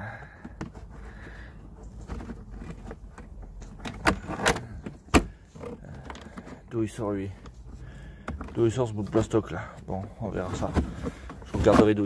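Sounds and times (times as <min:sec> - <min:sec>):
plastic and metal parts rustling: 0:00.0 - 0:12.0.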